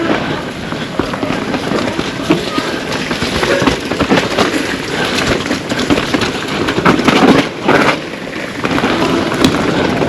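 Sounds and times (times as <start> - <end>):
bike clattering over bumps: 0.0 - 10.0
tyres rolling over dirt and rock: 0.0 - 10.0.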